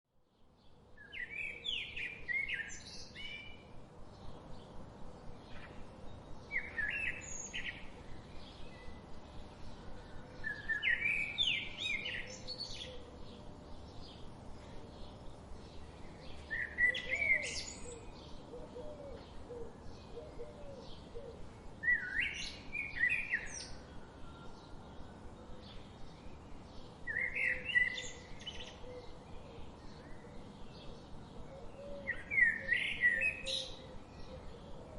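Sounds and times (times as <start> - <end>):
birds singing and chirping: 0.7 - 34.9.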